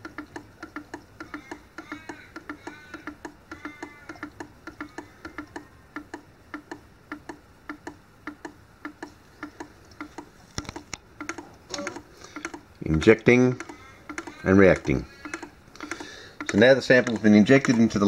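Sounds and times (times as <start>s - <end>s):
louder clicks: 0.0s - 12.8s, 13.5s - 18.0s
analyser mechanical ticking: 0.0s - 18.0s.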